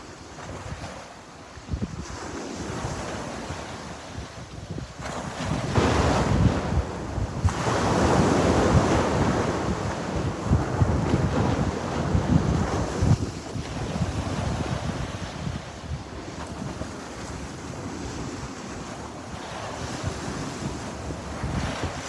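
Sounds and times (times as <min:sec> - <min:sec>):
waves washing onto shore: 0:00.0 - 0:22.0
wind buffeting microphone: 0:00.1 - 0:22.0.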